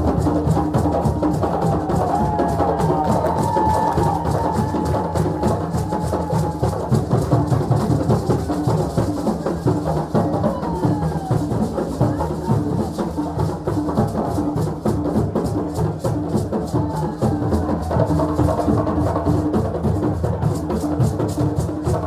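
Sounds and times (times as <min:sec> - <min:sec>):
drums playing fast rhythm: 0:00.0 - 0:22.0.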